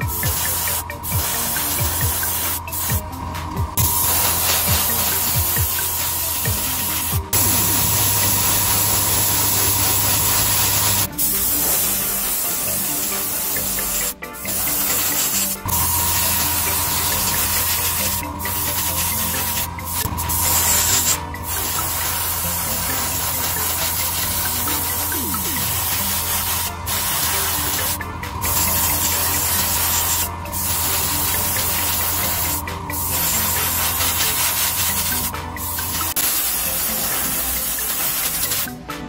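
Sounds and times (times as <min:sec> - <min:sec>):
exhaust fan hum: 0:00.0 - 0:12.1, 0:14.5 - 0:36.2
airbrush spraying hiss: 0:00.0 - 0:38.7.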